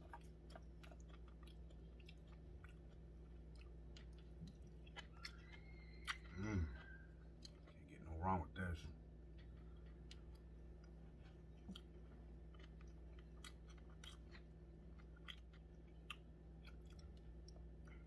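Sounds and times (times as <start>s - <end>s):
chewing with wet mouth clicks: 0.0s - 8.1s, 9.2s - 18.0s
steady low hum: 0.0s - 18.0s.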